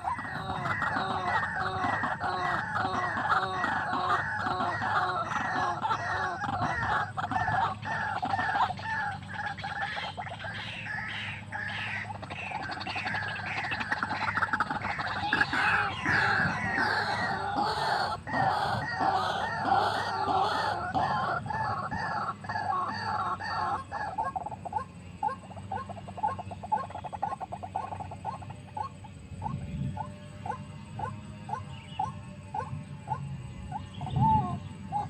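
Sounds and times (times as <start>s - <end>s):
waterhen calling: 0.0s - 35.0s.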